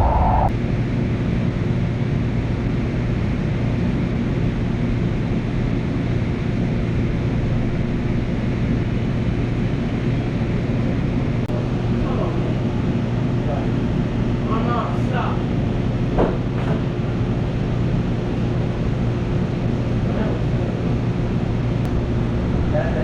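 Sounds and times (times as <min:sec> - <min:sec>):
train rumbling at speed: 0:00.0 - 0:01.4, 0:02.1 - 0:23.0.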